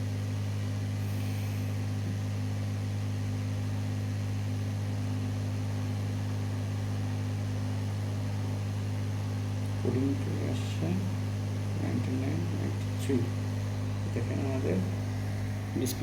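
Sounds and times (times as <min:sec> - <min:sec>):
computer fans humming: 0:00.0 - 0:16.0.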